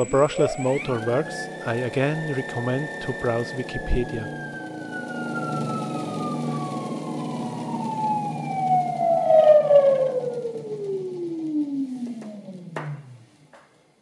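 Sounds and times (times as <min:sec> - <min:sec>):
electric motor whine: 0:00.0 - 0:13.2
low hum: 0:00.0 - 0:13.3.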